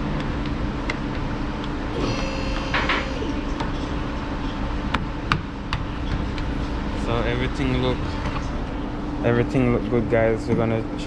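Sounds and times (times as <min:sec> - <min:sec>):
garage background hum: 0:00.0 - 0:11.0.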